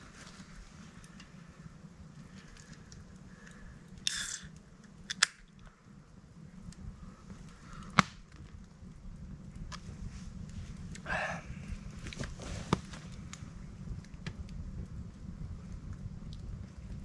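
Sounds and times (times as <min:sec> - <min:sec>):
burning wood popping: 0:00.0 - 0:17.0
campfire crackling: 0:00.0 - 0:17.0.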